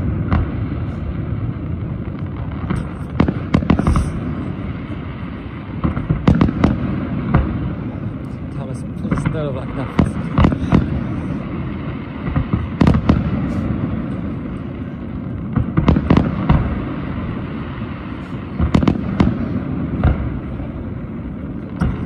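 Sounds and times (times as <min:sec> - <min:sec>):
constant low rumble: 0:00.0 - 0:22.0
fireworks bangs and crackles: 0:00.0 - 0:22.0.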